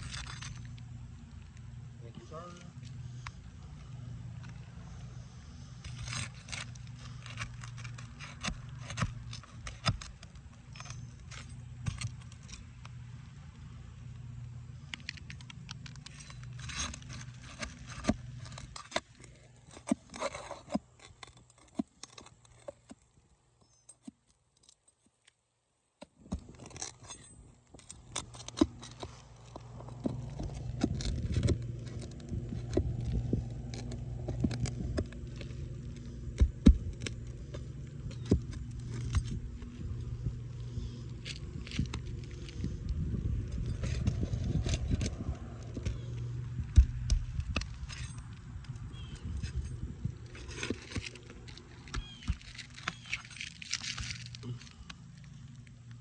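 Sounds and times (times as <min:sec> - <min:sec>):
metal bar scraping shingles: 0:00.0 - 0:01.0, 0:02.9 - 0:12.9, 0:14.8 - 0:22.9, 0:26.4 - 0:55.4
steady low hum: 0:00.0 - 0:22.7, 0:26.2 - 0:56.0.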